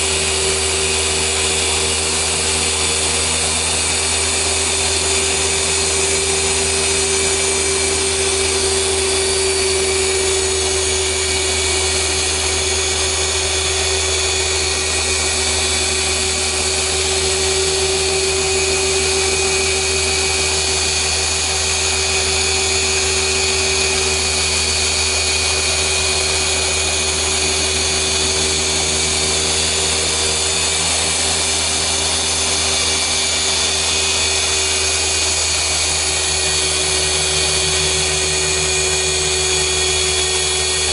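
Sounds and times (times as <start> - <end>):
polisher motor whine: 0.0 - 40.9.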